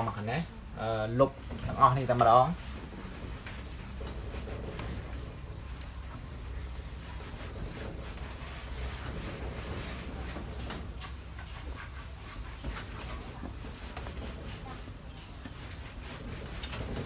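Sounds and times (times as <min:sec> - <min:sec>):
steady low hum: 0:00.0 - 0:17.0
eraser scrubbing whiteboard: 0:01.5 - 0:17.0.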